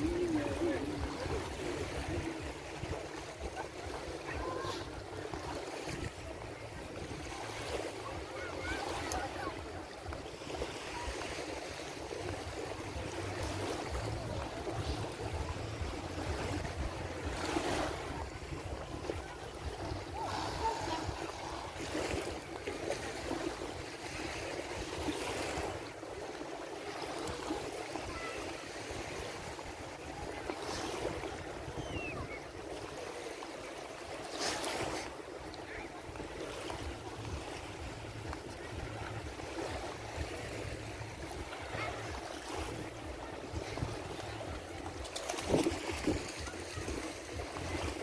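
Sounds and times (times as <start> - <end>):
waves washing onto sandy shore: 0.0 - 48.0.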